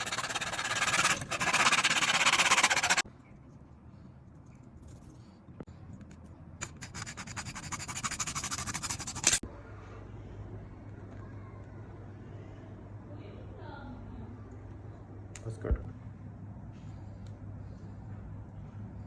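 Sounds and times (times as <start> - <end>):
low steady hum: 3.0 - 19.0.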